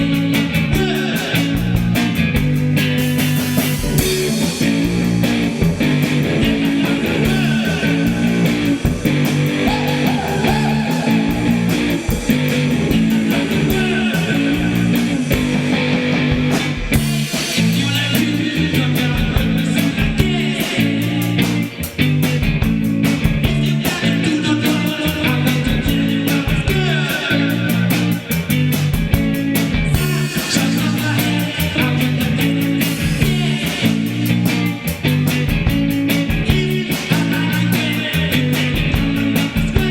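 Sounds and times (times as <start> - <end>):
bass guitar: 0.0 - 39.9
electric guitar: 0.0 - 39.9
fast drum beat: 0.0 - 39.9.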